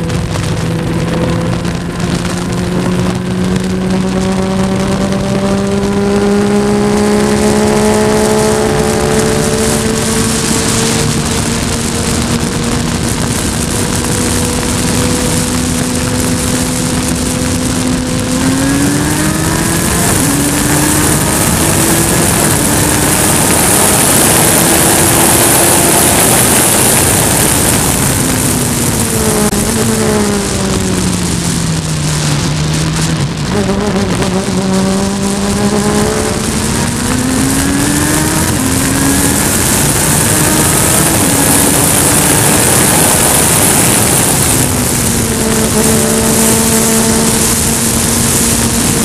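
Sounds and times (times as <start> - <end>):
race car engine revving: 0.0 - 49.0
wind rush: 0.0 - 49.0.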